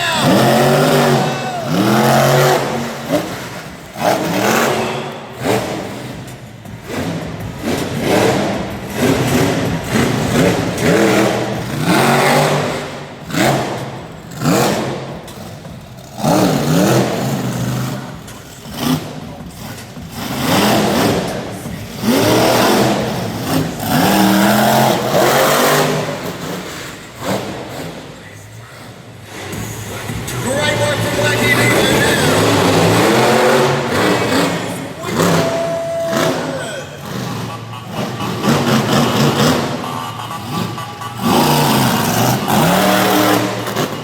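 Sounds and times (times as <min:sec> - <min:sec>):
truck engine revving: 0:00.0 - 0:44.0.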